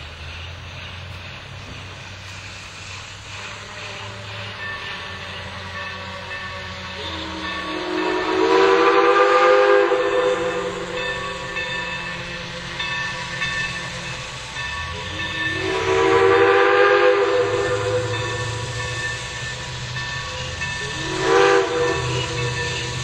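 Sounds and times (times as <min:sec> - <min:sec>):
low rumble of train: 0:00.0 - 0:23.0
steam locomotive whistle: 0:03.2 - 0:23.0.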